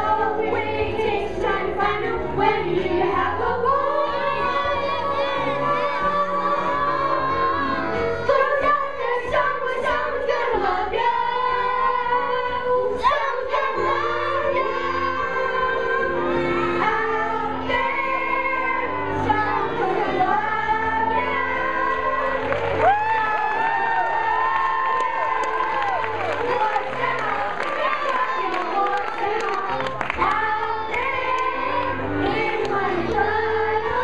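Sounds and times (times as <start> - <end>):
children singing in chorus: 0.0 - 23.8, 26.0 - 34.0.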